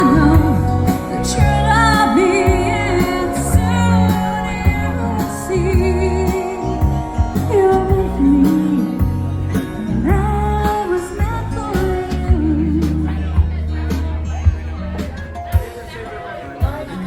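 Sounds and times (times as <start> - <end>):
woman singing pop song: 0.0 - 13.7
band with bass and drums: 0.0 - 17.0.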